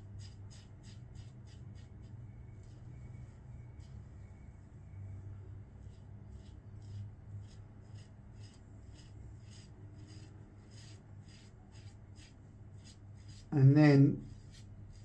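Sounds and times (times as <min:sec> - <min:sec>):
razor scraping stubble: 0:00.0 - 0:04.4, 0:05.7 - 0:15.0
low steady hum: 0:00.0 - 0:15.0.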